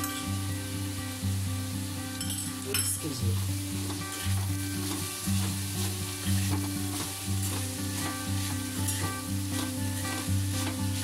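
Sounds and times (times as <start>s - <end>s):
background music: 0.0s - 11.0s
food sizzling in a pan: 0.0s - 11.0s.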